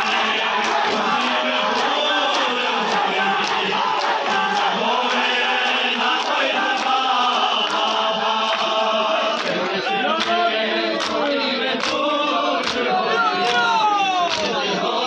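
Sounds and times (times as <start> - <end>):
men chanting in chorus: 0.0 - 15.0
hands slapping chests: 0.1 - 10.4, 11.0 - 12.0, 12.6 - 14.6.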